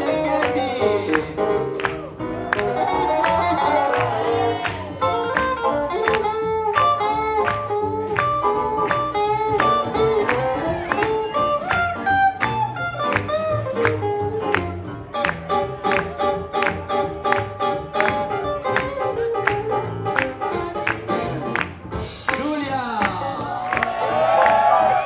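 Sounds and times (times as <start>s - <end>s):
guitar melody: 0.0s - 23.6s
swing jazz band playing: 0.0s - 25.0s.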